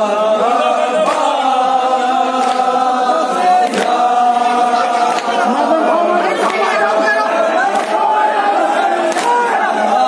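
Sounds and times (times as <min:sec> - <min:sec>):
men chanting in unison: 0:00.0 - 0:10.0.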